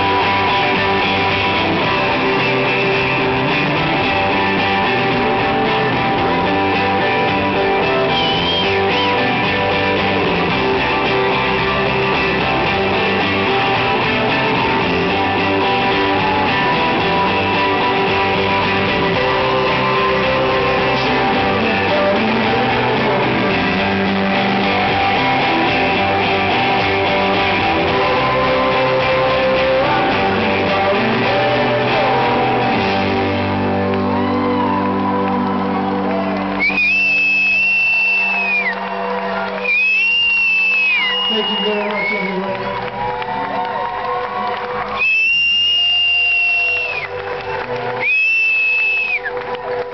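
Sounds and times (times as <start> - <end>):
rock band playing live: 0.0 - 49.9
strummed electric guitars: 0.0 - 49.9.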